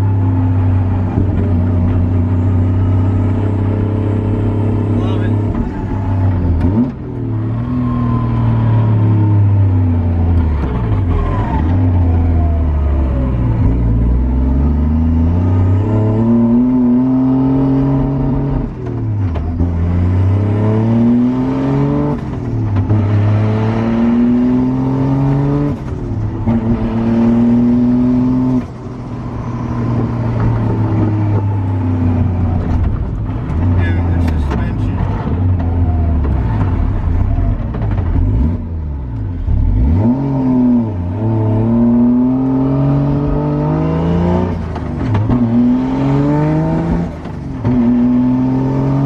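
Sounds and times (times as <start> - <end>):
car engine revving through gears: 0.0 - 49.0.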